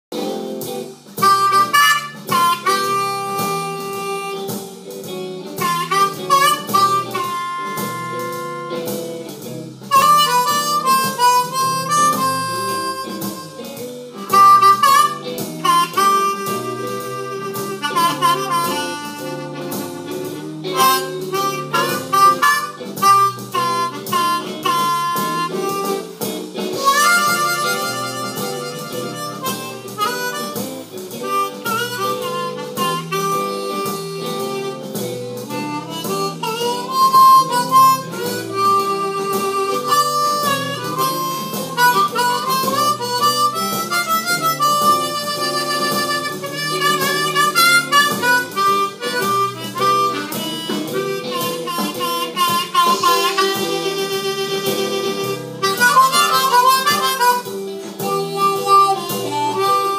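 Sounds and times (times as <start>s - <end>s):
harmonica playing blues phrases: 0.2s - 59.9s.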